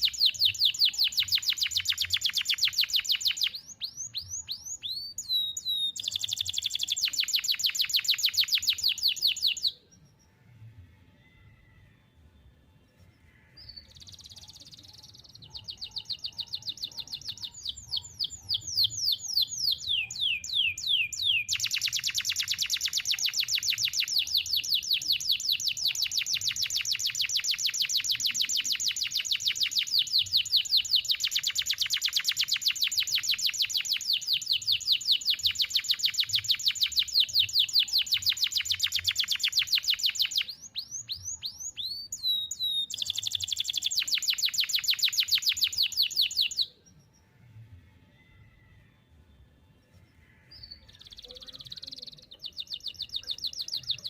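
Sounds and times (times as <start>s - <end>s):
canary singing trills: 0.0s - 10.4s, 12.8s - 47.3s, 49.8s - 54.0s.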